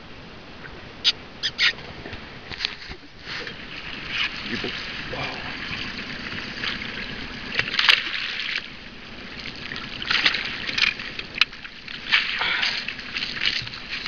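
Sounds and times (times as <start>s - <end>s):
water splashing and sloshing: 1.7s - 14.0s.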